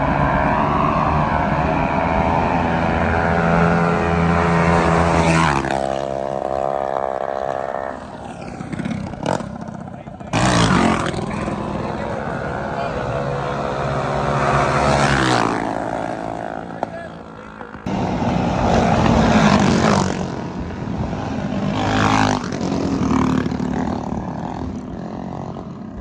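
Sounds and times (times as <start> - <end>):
minibike engine revving high: 0.0 - 26.0.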